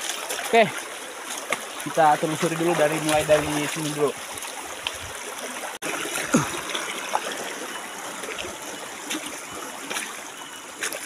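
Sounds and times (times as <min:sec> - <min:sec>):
feet splashing through water: 0:00.0 - 0:11.0
stream running over rocks: 0:00.0 - 0:11.0.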